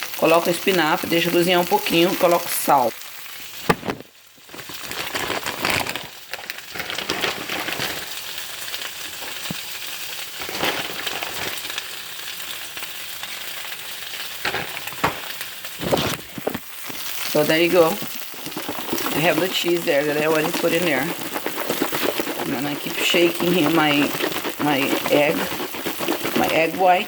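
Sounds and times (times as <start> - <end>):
spinach sizzling in a frying pan: 0.0 - 27.0.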